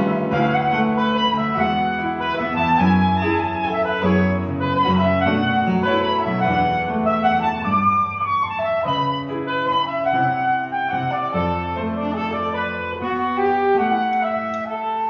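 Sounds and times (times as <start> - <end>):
piano accompaniment: 0.0 - 15.0
saxophone melody: 0.0 - 15.0.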